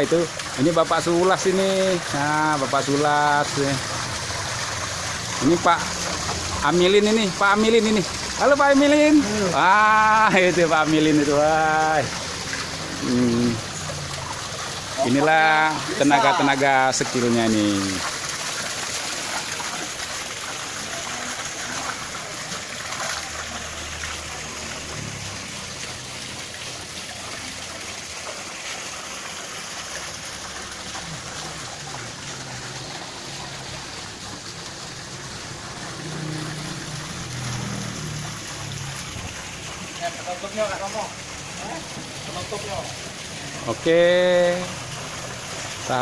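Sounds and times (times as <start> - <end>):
water splashing down waterfall: 0.0 - 46.0.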